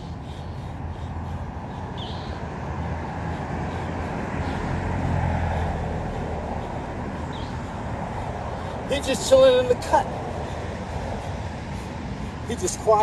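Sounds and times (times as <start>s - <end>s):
road traffic rumble: 0.0s - 13.0s
vehicle passing: 0.0s - 13.0s.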